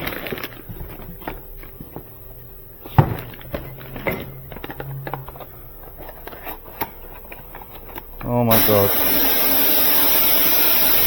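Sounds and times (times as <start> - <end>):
parts and packaging being handled: 0.0 - 9.2.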